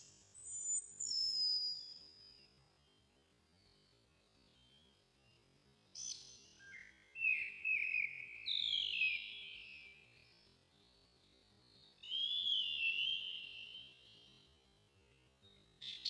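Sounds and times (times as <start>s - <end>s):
slowed-down birdsong: 0.0s - 16.0s.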